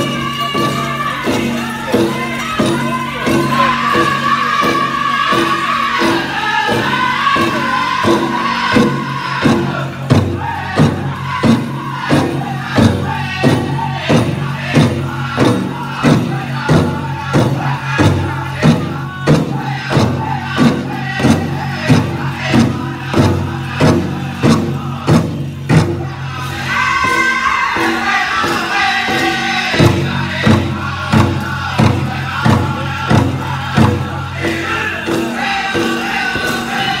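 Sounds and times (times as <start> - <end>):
big drum steady beat: 0.0 - 37.0
male chorus singing: 0.0 - 37.0.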